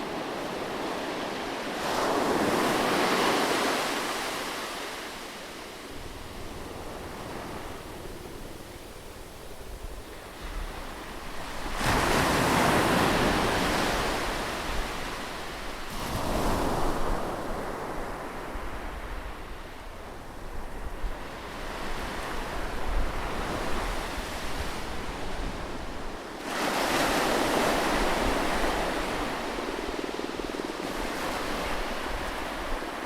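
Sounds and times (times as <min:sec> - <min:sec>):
ocean waves breaking on beach: 0:00.0 - 0:20.2, 0:21.2 - 0:33.0.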